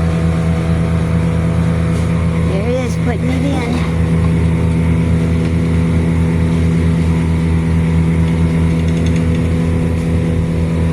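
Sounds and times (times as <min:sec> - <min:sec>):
machine engine running steadily: 0:00.0 - 0:10.9.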